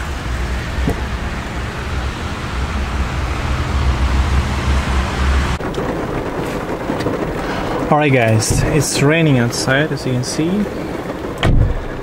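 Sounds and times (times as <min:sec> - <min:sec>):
low rumble: 0:00.0 - 0:12.0
rain hiss: 0:00.0 - 0:12.0.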